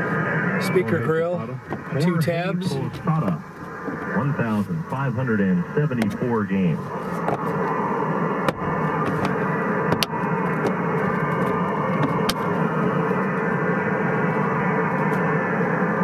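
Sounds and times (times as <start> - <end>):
radio noise rush: 0.0 - 14.7.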